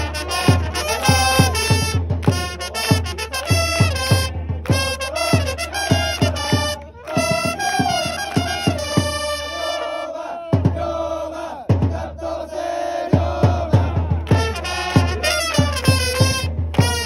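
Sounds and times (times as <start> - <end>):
steady drum beat: 0.0 - 9.5, 10.5 - 12.4, 13.0 - 17.0
trumpets playing cheer song: 0.0 - 10.5, 13.8 - 17.0
fans chanting: 0.0 - 17.0.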